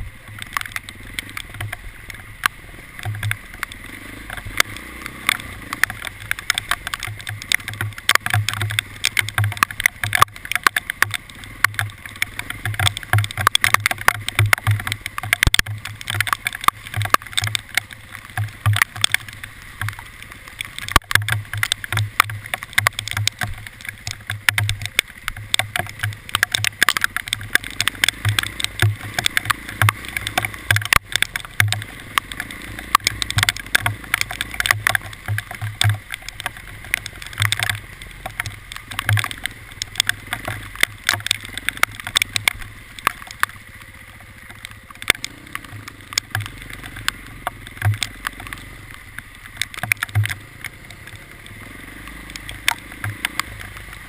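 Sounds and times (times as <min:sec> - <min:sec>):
hailstones striking hard surfaces: 0:00.3 - 0:54.0.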